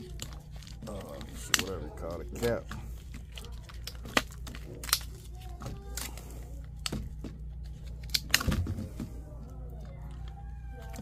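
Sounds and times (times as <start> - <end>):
plastic parts and packaging rustling: 0.0 - 11.0
steady low hum: 0.0 - 11.0.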